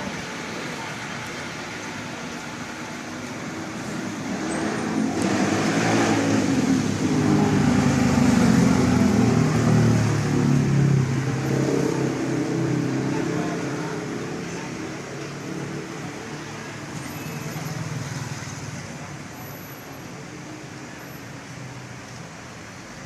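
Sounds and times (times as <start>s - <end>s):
street traffic: 0.0s - 23.0s
vehicle engine running nearby: 0.0s - 23.0s.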